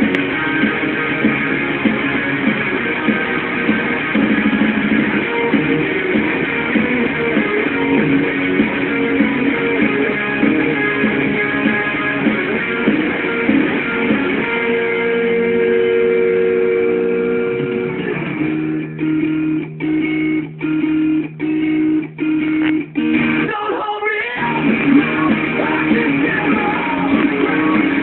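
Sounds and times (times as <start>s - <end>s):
guitar chords: 0.0s - 28.0s.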